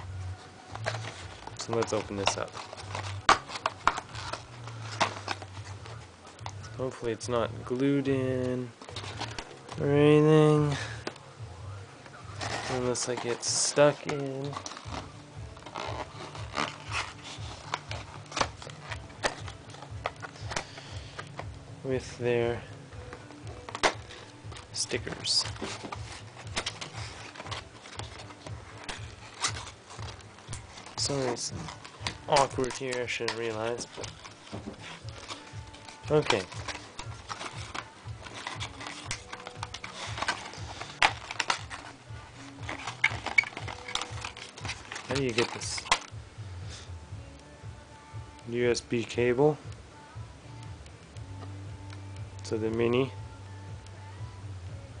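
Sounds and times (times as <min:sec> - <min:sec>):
cardboard and plastic packaging handled: 0:00.0 - 0:46.8
background music: 0:00.0 - 0:55.0.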